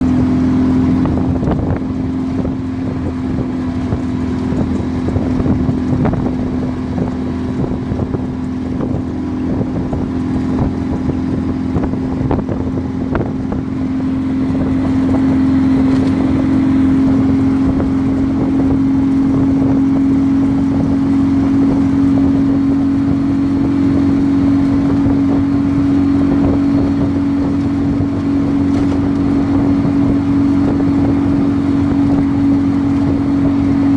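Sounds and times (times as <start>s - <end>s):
turbocharged buggy engine running: 0.0s - 33.9s.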